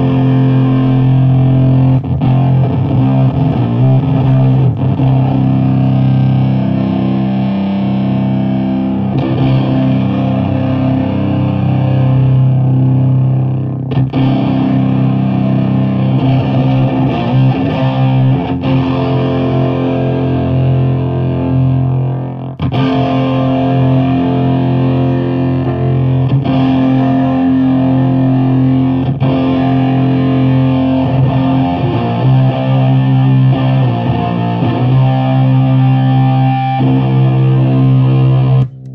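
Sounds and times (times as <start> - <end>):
fuzzed electric guitar chords: 0.0 - 38.9.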